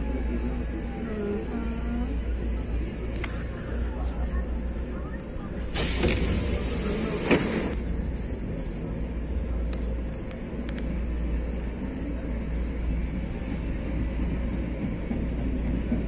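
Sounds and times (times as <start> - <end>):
light rail train rumbling: 0.0 - 16.0.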